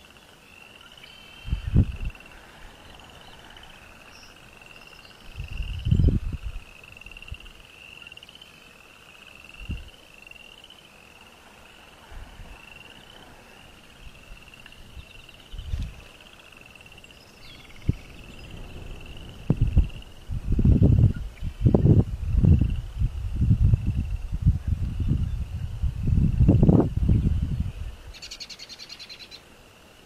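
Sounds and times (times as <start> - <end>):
frogs trilling: 0.0 - 30.0.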